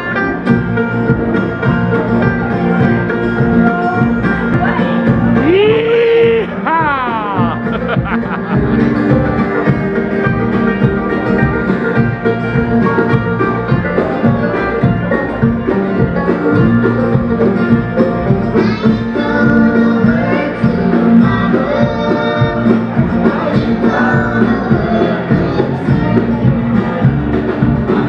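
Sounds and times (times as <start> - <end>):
banjo: 0.0 - 28.0
bluegrass band playing: 0.0 - 28.0.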